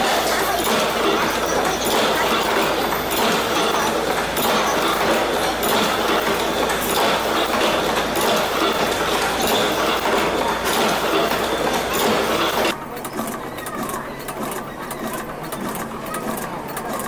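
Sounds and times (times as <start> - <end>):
machine clacking: 0.0 - 17.0.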